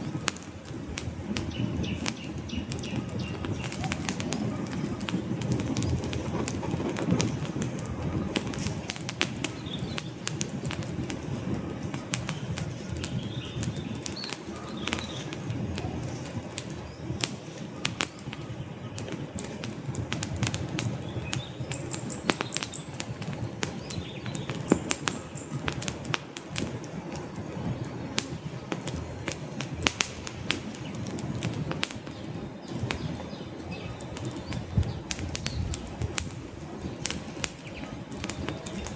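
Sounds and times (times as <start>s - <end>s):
low rush of burning logs: 0.0s - 38.9s
wood fire popping and snapping: 0.0s - 38.9s.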